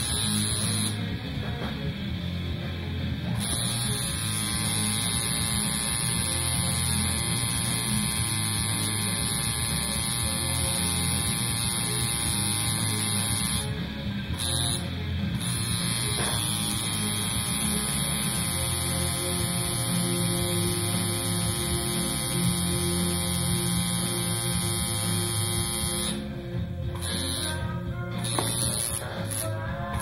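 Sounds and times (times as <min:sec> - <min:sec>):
tattoo machine buzzing: 0:00.0 - 0:01.2, 0:02.1 - 0:30.0
background music with bass and guitar: 0:00.0 - 0:30.0.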